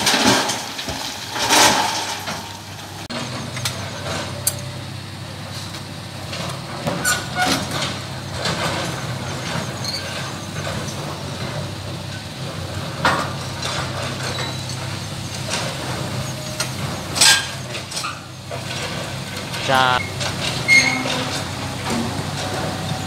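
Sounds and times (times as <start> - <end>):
concrete rubble clanking: 0.0 - 23.0
excavator diesel engine running: 0.0 - 23.0.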